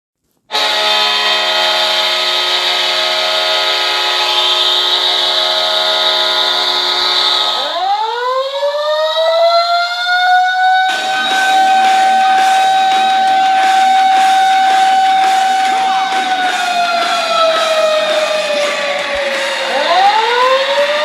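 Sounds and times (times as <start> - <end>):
hockey goal horn: 0.5 - 7.8, 10.8 - 21.0
siren winding up: 0.5 - 21.0.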